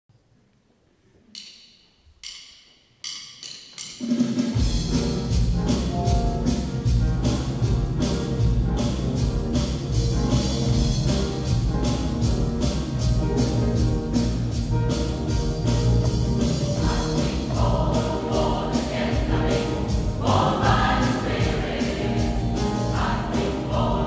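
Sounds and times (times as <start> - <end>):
band playing: 4.4 - 24.0.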